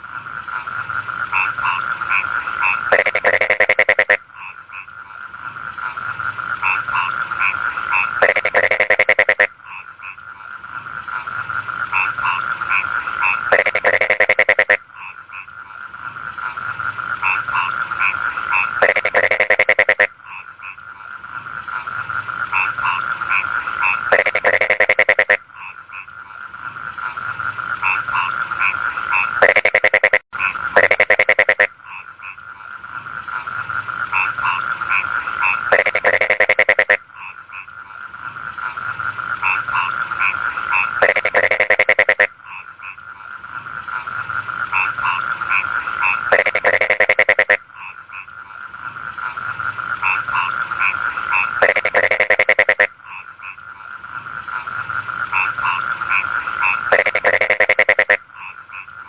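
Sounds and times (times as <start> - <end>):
frog croaking: 0.0 - 59.0.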